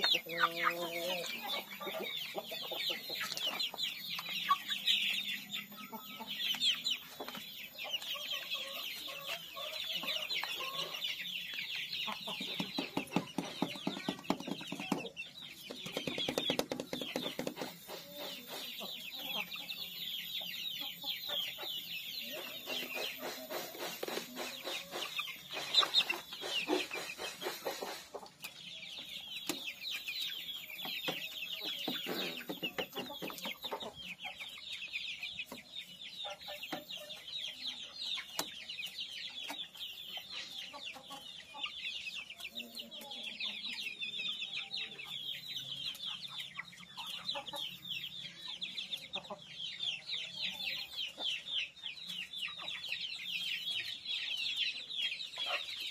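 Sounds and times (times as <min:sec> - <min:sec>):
chickens clucking: 0:00.0 - 0:55.9
chicks peeping: 0:00.0 - 0:55.9.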